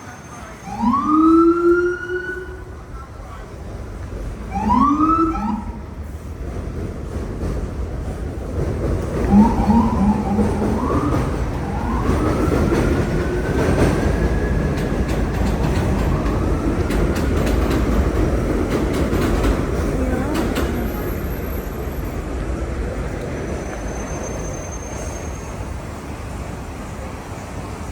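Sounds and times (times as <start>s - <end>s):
passing vehicles rumbling: 0.0s - 27.9s.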